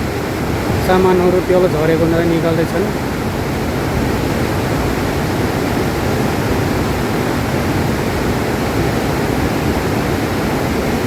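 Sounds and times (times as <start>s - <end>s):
flooded river rushing: 0.0s - 11.0s.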